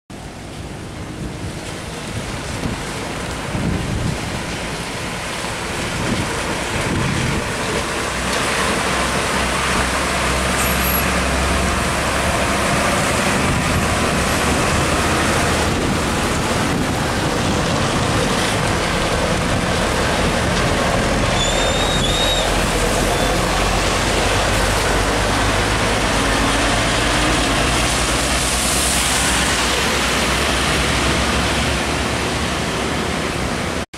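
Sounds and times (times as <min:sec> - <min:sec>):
diesel truck engine drone: 0:00.1 - 0:33.9
rain and tyre spray hiss: 0:00.2 - 0:33.9.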